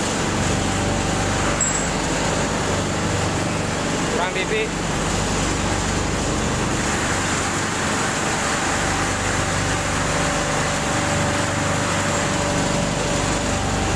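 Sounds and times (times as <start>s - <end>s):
machinery drone and hum: 0.0s - 13.9s.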